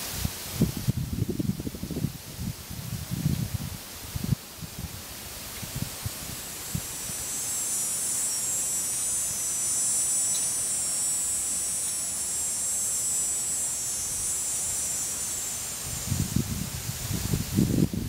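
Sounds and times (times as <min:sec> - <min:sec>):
cicada buzzing: 0:00.0 - 0:18.0.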